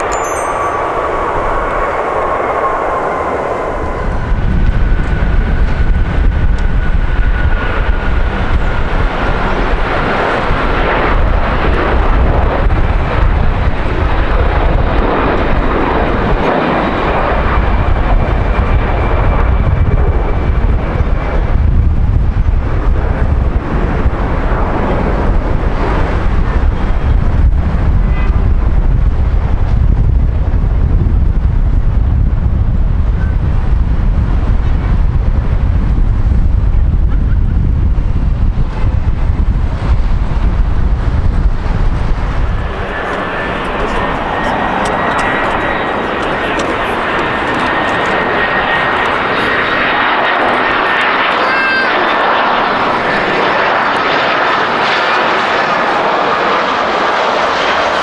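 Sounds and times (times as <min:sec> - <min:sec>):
high engine whine: 0:00.0 - 0:58.0
jet engines roaring: 0:00.0 - 0:58.0.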